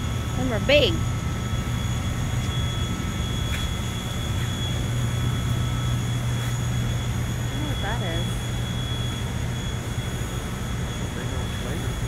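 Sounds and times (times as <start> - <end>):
high steady whine: 0.0 - 12.0
ventilation fans humming: 0.0 - 12.0.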